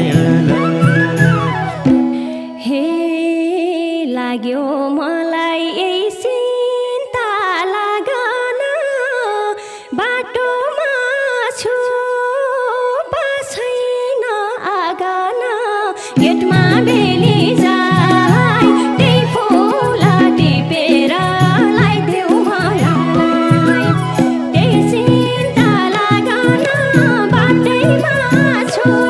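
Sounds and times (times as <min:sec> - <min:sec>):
woman singing into microphone: 0:00.0 - 0:29.0.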